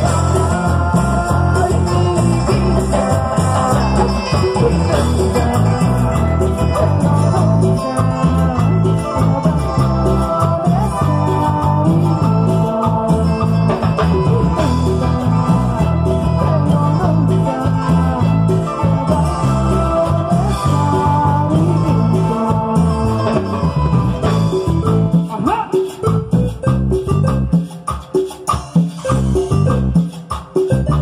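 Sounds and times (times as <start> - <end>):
live cumbia band playing: 0.0 - 31.0.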